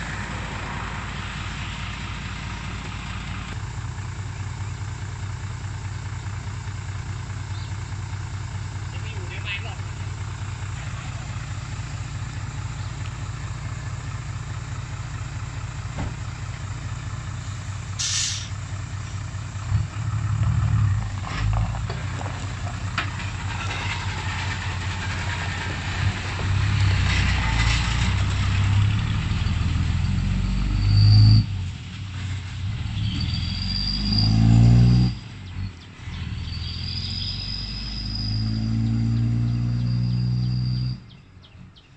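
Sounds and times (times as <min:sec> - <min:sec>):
diesel truck engine idling and revving: 0:00.0 - 0:41.9.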